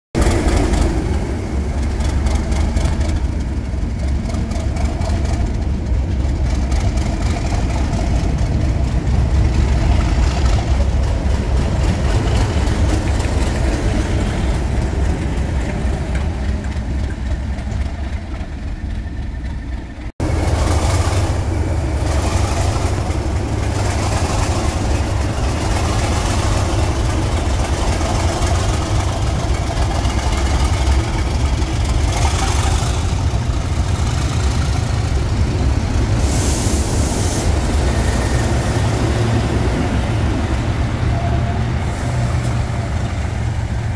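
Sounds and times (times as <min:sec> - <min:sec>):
diesel locomotive engines rumbling: 0:00.1 - 0:43.9.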